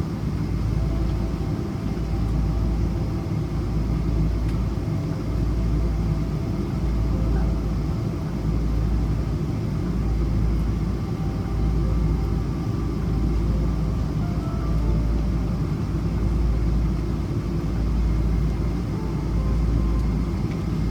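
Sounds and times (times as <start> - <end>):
faint whining tones: 0.0 - 20.9
low rumble of airplane taxiing: 0.0 - 20.9.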